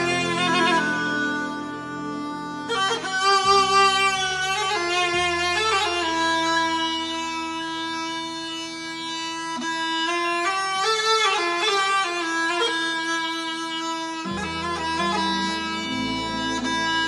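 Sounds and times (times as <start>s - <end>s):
double-pipe reed clarinet melody: 0.0s - 17.0s.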